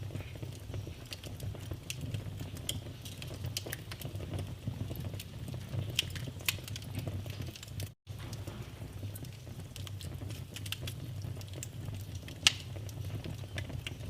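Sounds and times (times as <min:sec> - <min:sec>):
loud fire pops: 0:00.0 - 0:14.0
low rumble of flames: 0:00.0 - 0:14.0
wood fire crackling: 0:00.0 - 0:14.0.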